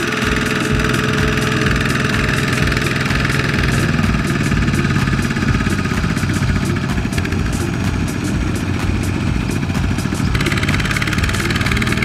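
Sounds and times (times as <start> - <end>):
diesel tractor engine chugging: 0.0 - 12.0.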